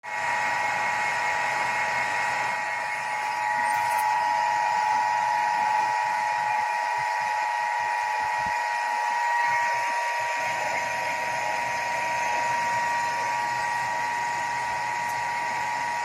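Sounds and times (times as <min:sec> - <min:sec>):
electric motor whining: 0:00.1 - 0:16.0.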